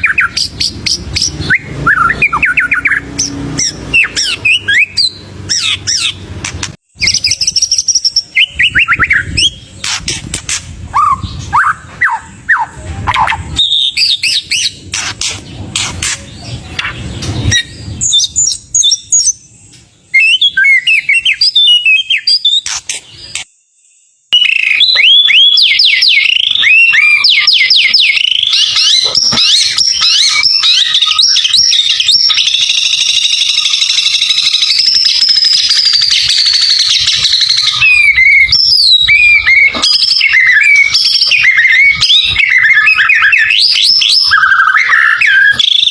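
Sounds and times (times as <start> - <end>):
bird singing whistles and trills: 0.0 - 6.2, 7.0 - 23.5, 24.3 - 45.9.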